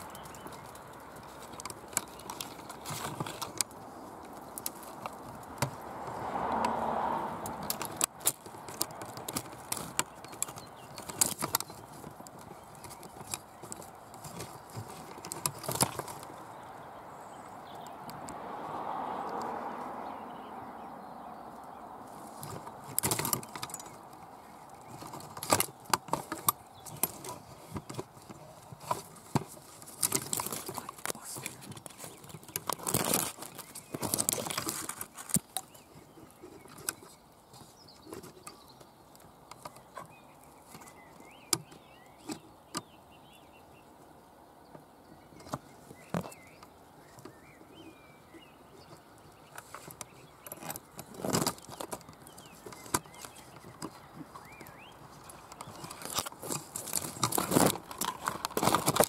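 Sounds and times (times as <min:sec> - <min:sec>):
twigs cracking and rustling: 0:00.0 - 0:20.0, 0:21.5 - 0:43.4, 0:45.3 - 0:59.0.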